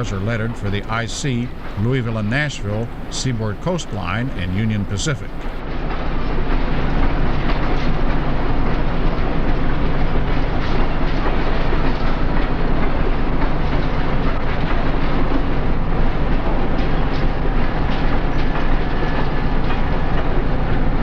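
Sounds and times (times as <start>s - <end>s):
passenger train passing: 0.0s - 21.0s.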